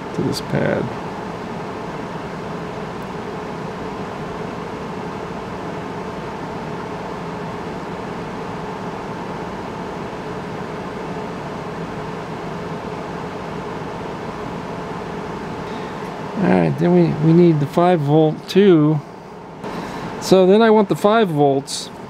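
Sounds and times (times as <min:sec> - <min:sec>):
mechanical hum and hiss: 0:00.0 - 0:22.0.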